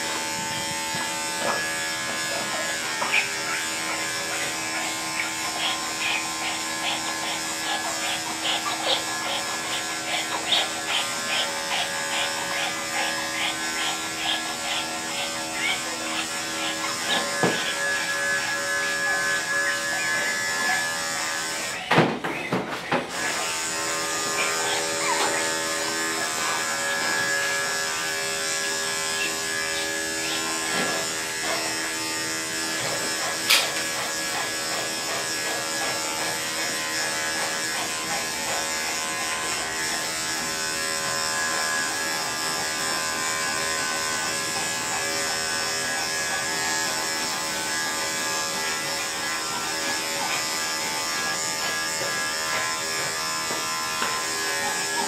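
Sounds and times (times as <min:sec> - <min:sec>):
electric clippers buzzing: 0:00.0 - 0:55.0.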